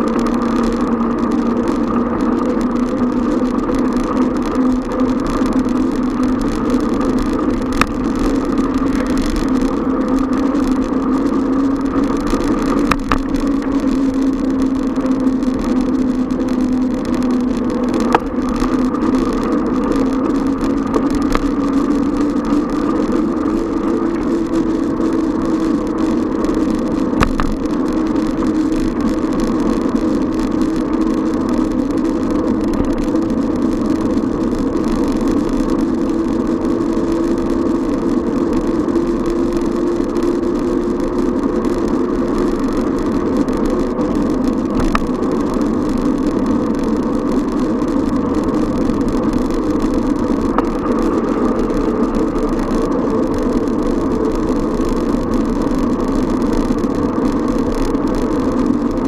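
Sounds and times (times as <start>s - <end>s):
city traffic noise: 0.0s - 59.0s.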